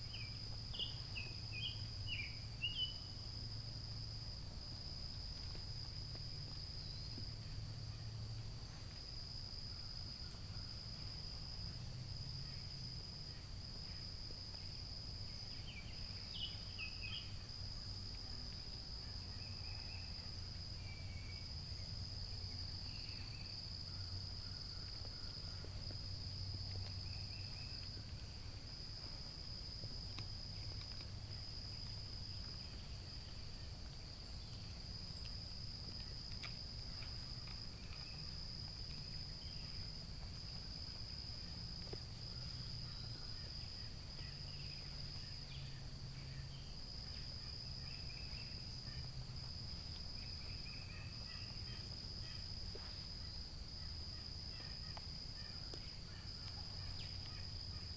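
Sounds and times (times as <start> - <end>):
high-pitched insect chorus: 0.0 - 57.9.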